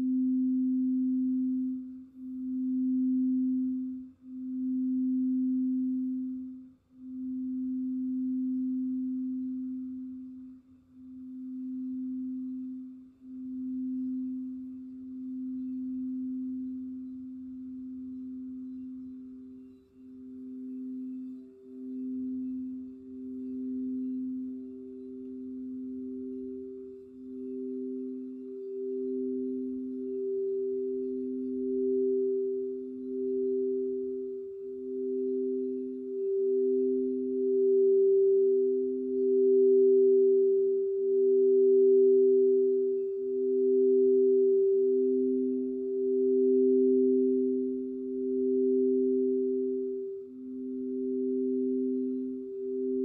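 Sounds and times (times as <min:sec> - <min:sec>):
higher singing bowl tone: 0:00.0 - 0:53.0
low singing bowl tone: 0:00.0 - 0:53.0.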